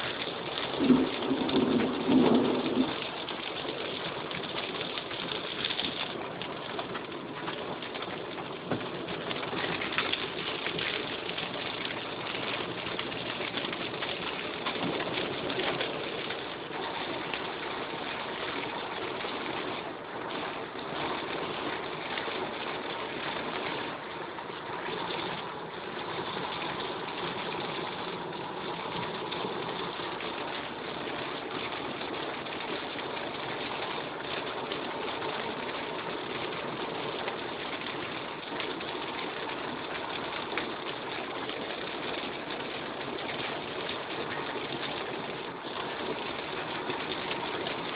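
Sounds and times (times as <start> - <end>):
heavy rain on car roof: 0.0 - 47.9.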